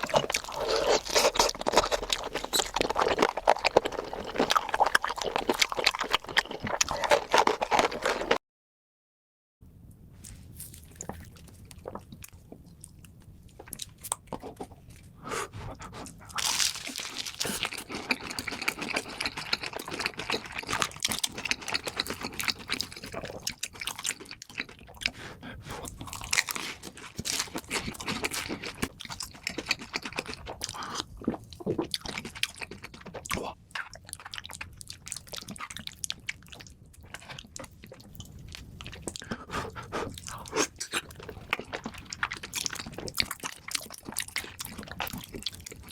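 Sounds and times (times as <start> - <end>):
person chewing crunchy food: 0.0 - 8.4, 10.2 - 45.9.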